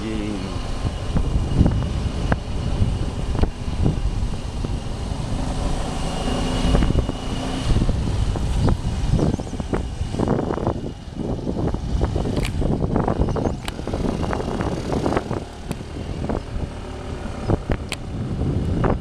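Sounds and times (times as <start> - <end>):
motorcycle engine rumble: 0.0 - 19.0
wind noise on microphone: 0.0 - 19.0.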